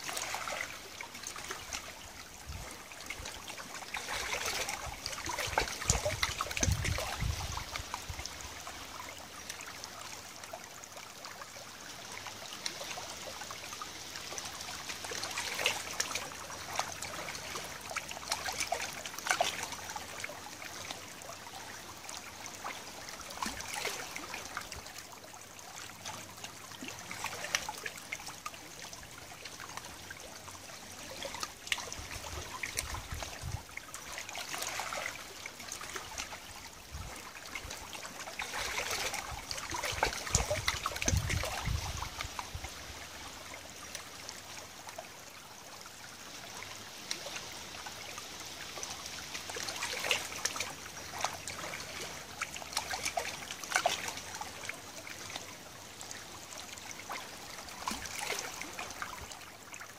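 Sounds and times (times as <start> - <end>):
river water lapping on pebbles: 0.0 - 59.9.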